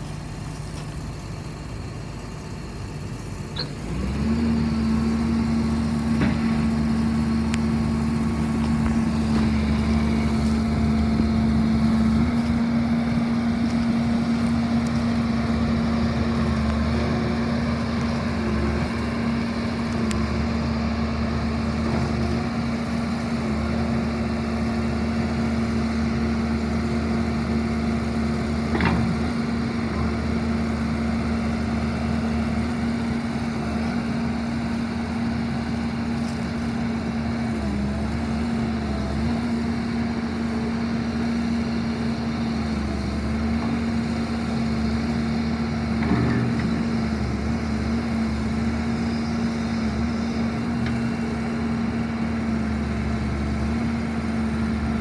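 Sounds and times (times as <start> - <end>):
excavator engine and hydraulics humming: 0.0 - 55.0.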